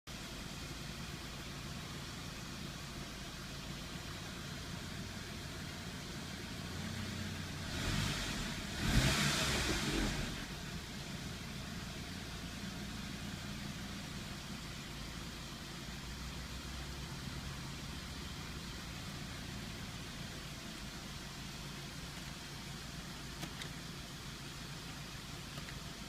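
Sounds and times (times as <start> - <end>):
car engine idling: 0.1 - 26.0.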